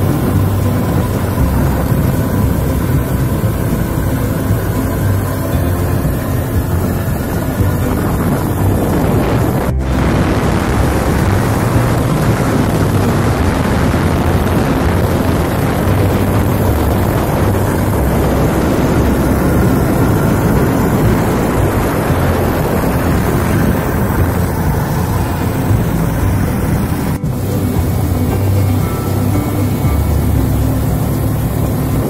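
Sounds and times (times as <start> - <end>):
boat motor droning: 0.0 - 32.0
water rushing off hull: 0.0 - 32.0.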